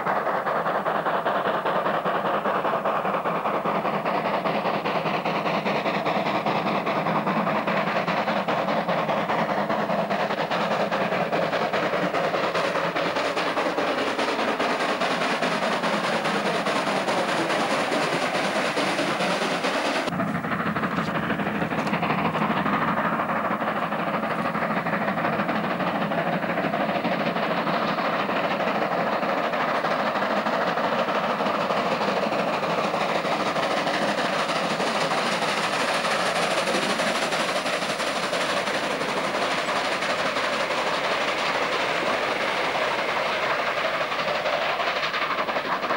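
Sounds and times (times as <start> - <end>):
steam locomotive exhaust beats: 0.0 - 45.9
wagons rumbling on rails: 0.0 - 45.9.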